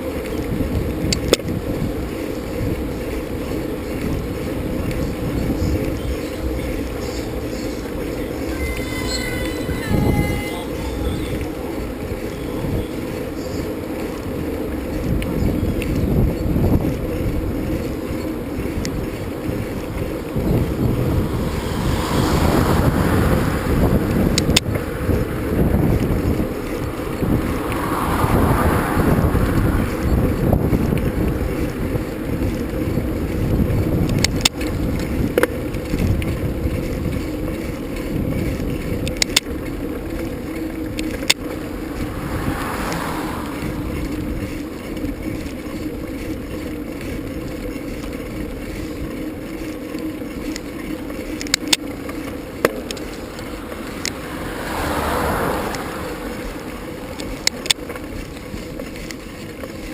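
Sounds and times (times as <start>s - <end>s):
knobby tyres rumbling: 0.0s - 59.9s
wind buffeting microphone: 0.0s - 59.9s.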